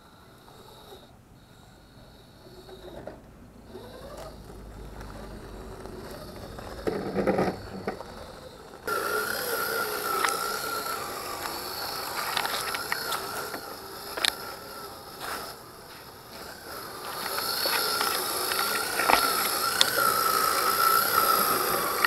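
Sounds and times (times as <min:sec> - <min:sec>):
electric motor whining: 0:02.0 - 0:22.0.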